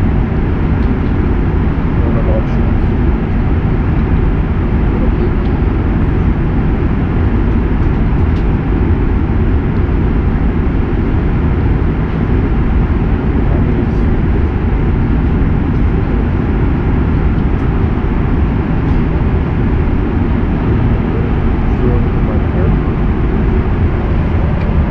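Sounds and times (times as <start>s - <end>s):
airplane cabin engine roar: 0.0s - 24.9s.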